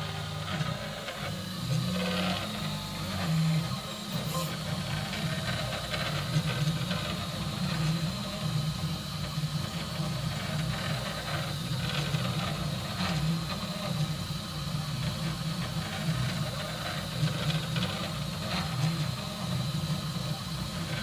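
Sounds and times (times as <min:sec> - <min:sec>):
printer stepper motors humming: 0:00.0 - 0:21.0.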